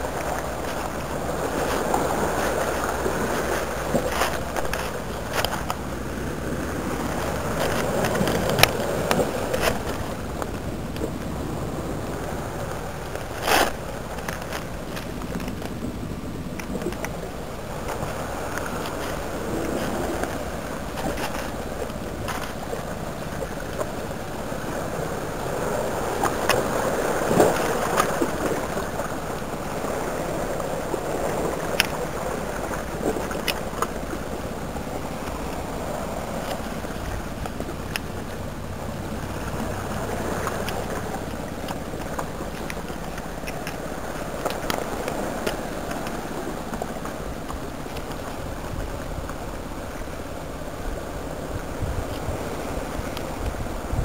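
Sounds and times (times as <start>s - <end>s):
sea water washing over rocks: 0.0s - 54.0s.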